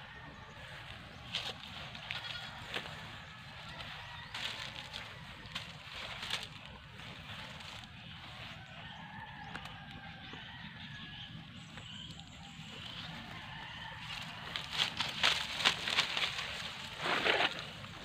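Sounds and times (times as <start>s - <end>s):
dry fronds crackling underfoot: 0.0s - 10.6s, 11.5s - 18.0s.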